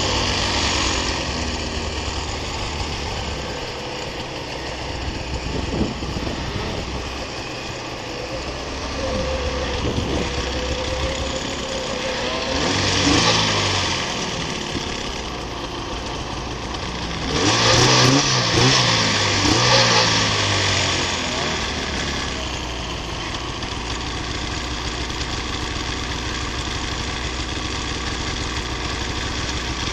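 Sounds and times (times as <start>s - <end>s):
snowmobile engine running: 0.0s - 29.9s.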